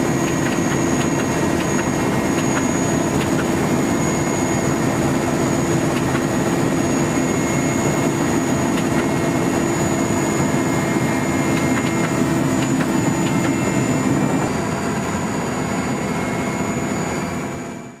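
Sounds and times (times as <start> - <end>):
aircraft turbine engine drone: 0.0 - 18.0.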